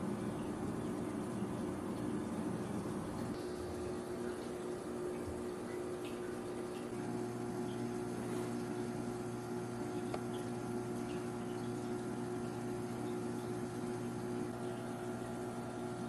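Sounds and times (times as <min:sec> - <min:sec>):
background hum of held tones: 0:00.0 - 0:16.0.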